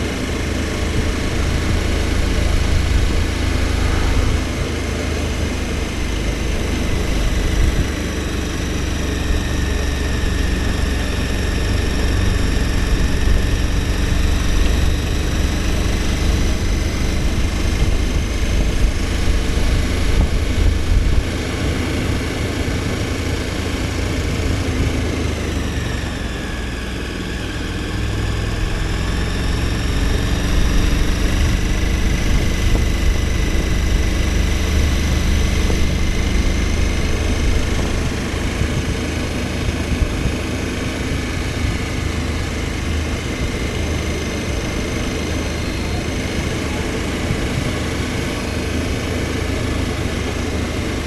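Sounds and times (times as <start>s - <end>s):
motorcycle engine cruising: 0.0s - 51.0s.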